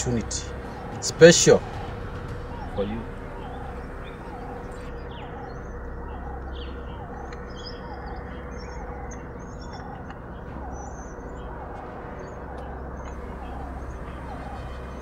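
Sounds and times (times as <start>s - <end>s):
scattered high bird chirps: 0.0s - 15.0s
steady background hiss: 0.0s - 15.0s.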